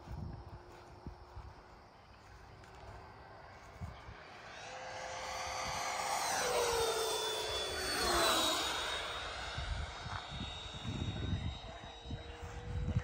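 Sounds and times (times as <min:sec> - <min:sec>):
electric jet whine passing: 0:01.6 - 0:13.0.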